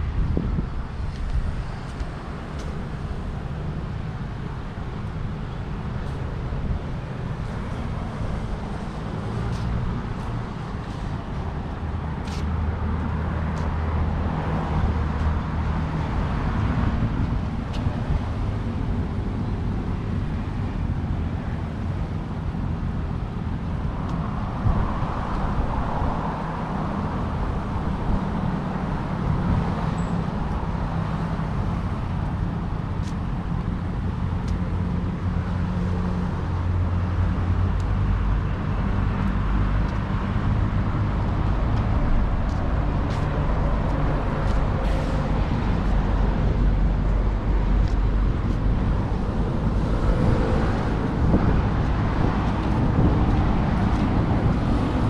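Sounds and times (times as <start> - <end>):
low engine hum: 0.0 - 55.0
vehicles passing by: 0.0 - 55.0.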